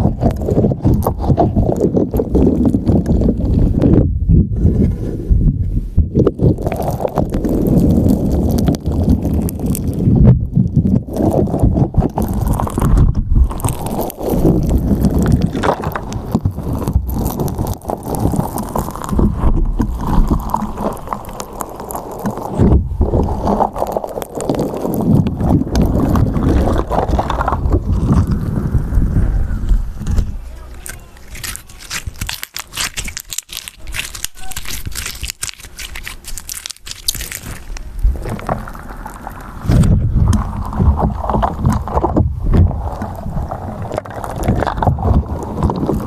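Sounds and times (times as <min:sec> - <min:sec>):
slime squelching: 0:00.0 - 0:05.2, 0:06.0 - 0:46.0
muffled rumble on microphone: 0:00.0 - 0:31.3, 0:37.5 - 0:46.0.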